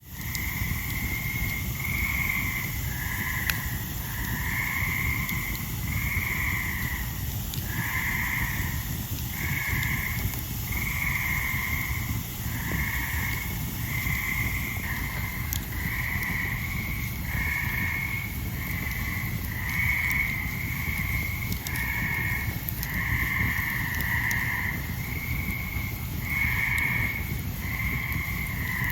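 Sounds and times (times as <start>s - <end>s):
campfire wood popping: 0.0s - 28.9s
tree frogs trilling: 0.2s - 28.9s.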